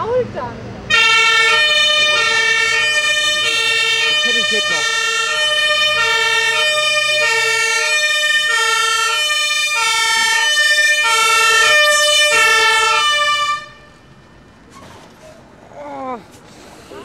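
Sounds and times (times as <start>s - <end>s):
two-tone fire engine siren: 0.9s - 14.6s.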